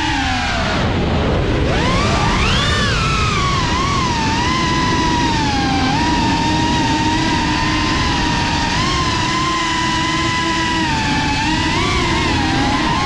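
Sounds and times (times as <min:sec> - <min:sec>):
drone motors whining: 0:00.0 - 0:13.0
low rushing noise: 0:00.0 - 0:13.0.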